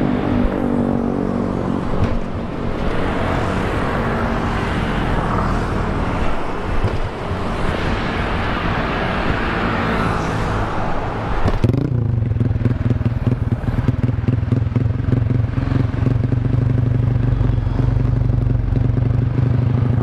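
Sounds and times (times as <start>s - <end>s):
motorcycle engine: 0.0s - 20.0s
road noise: 0.0s - 20.0s.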